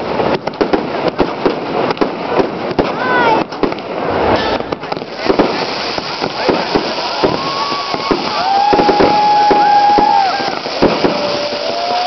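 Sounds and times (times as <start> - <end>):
firecrackers cracking: 0.0 - 12.0.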